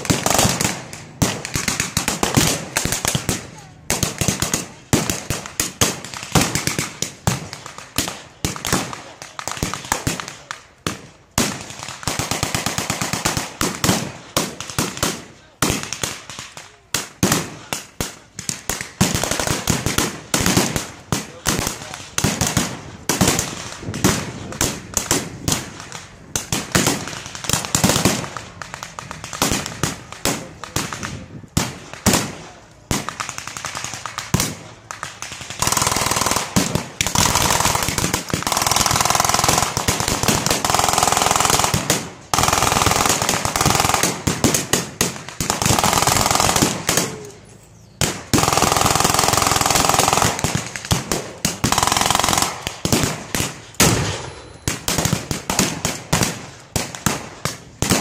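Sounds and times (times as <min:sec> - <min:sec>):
machine-gun fire bursts: 0:00.0 - 0:47.3, 0:48.0 - 0:58.0
rifle shots cracking: 0:00.0 - 0:47.4, 0:48.0 - 0:58.0.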